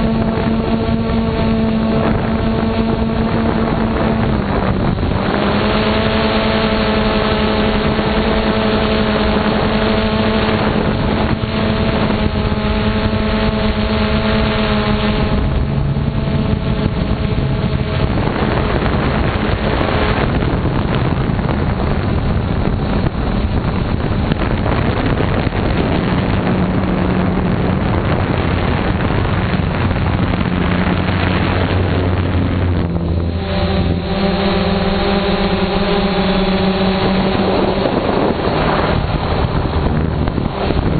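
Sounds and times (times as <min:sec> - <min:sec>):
model aircraft motor humming: 0:00.0 - 0:40.9
wind noise: 0:00.0 - 0:40.9.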